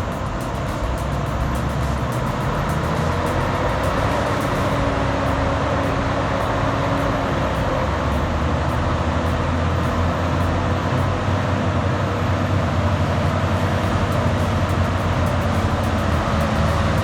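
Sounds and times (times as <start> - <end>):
heavy machine engine humming: 0.0 - 17.0.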